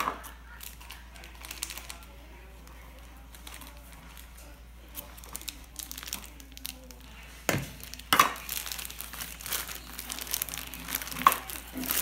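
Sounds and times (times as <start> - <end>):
plastic packet crinkling: 0.2 - 12.0.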